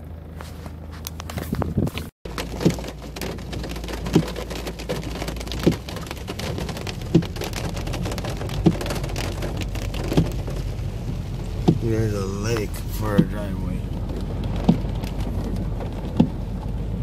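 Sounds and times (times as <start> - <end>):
rain pelting car windshield: 0.7 - 17.0
windshield wipers thumping: 2.0 - 17.0.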